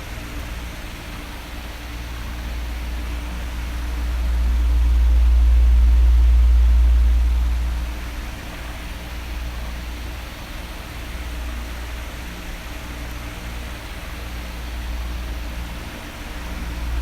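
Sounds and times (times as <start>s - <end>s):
electric fan running: 0.0s - 17.0s
faint motor hum: 0.0s - 17.0s.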